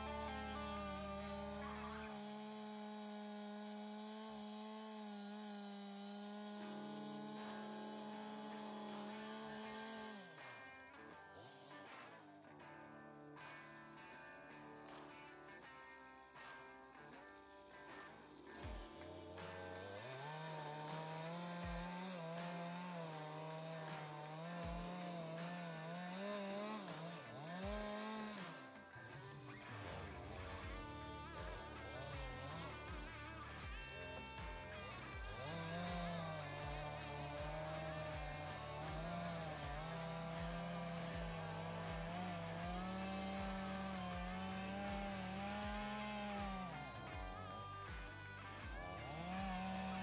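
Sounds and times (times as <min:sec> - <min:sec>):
chainsaw cutting at full throttle: 0:00.0 - 0:12.8, 0:15.8 - 0:50.0.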